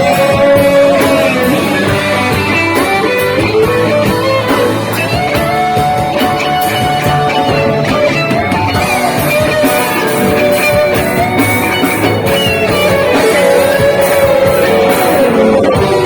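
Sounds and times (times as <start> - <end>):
bass guitar: 0.0 - 16.0
drums: 0.0 - 16.0
electric guitar melody: 0.0 - 16.0.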